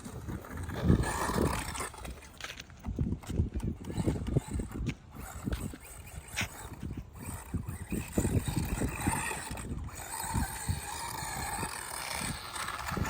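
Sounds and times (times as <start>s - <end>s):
toy truck motor whine: 0.0s - 2.4s, 3.2s - 13.0s
wheels knocking and bumping: 0.0s - 13.0s.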